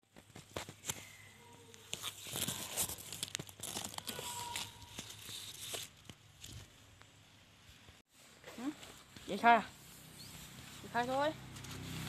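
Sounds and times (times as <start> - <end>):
leaves rustling against microphone: 0.1 - 12.0.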